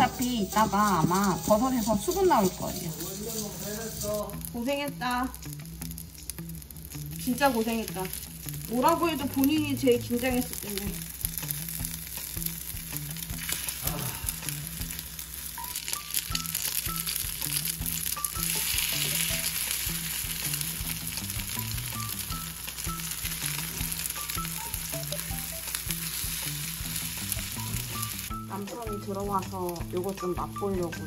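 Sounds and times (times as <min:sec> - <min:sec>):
pancakes sizzling in oil: 0:00.0 - 0:31.0
soft background music: 0:00.0 - 0:31.0.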